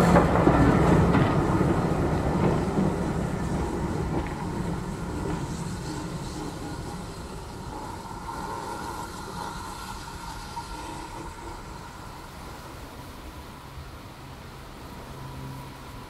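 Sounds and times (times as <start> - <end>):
steam train pulling away: 0.0 - 16.0.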